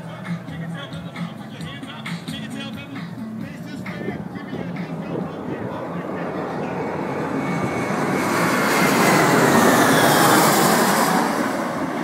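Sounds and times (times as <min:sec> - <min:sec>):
jet airliner flying overhead: 0:00.0 - 0:12.0.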